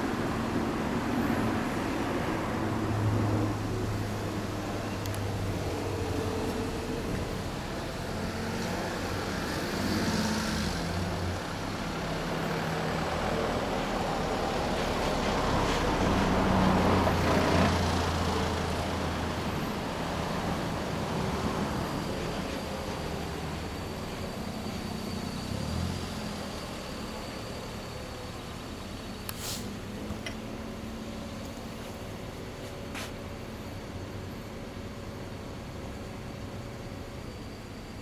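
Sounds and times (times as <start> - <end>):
vehicles passing: 0.0 - 37.5.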